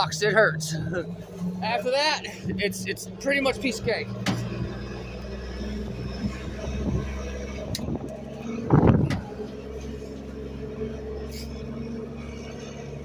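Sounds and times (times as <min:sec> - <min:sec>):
garbage truck engine running: 0:00.0 - 0:13.0.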